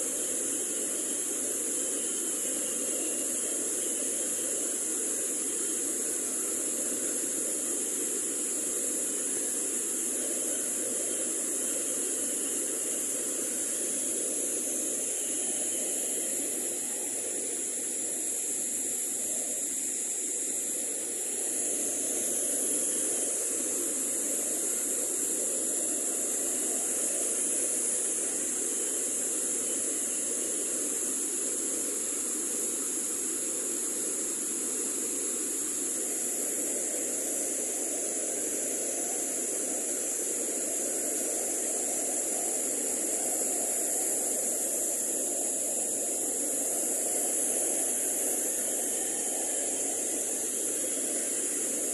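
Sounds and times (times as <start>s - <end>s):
high-pitched hiss: 0.0s - 51.9s.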